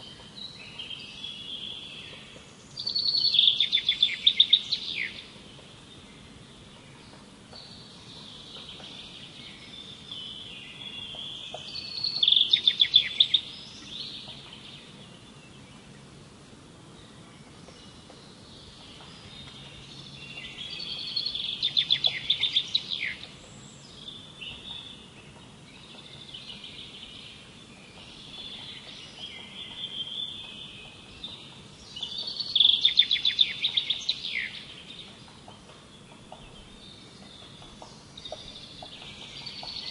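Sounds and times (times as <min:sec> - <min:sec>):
bird twittering: 0:00.0 - 0:05.4, 0:06.8 - 0:15.0, 0:17.6 - 0:39.9
songbird trilling: 0:00.0 - 0:15.8, 0:17.6 - 0:39.9.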